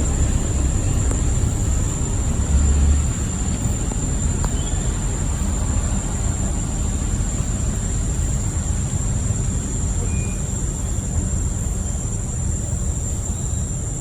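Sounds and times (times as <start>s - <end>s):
high-pitched whine: 0.0s - 14.0s
low rumbling noise: 0.0s - 14.0s.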